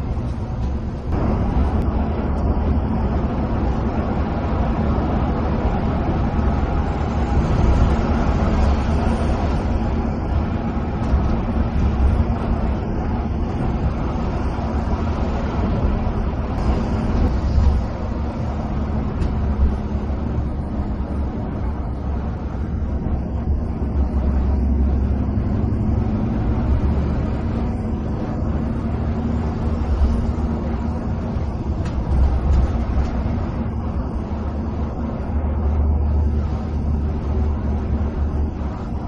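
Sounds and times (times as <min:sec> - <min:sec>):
diesel engine rumble: 0:00.0 - 0:39.0
tyre and road noise: 0:00.0 - 0:39.0.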